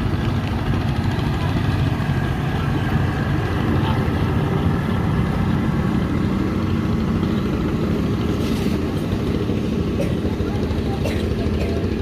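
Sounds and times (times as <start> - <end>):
speedboat engine droning: 0.0 - 12.0.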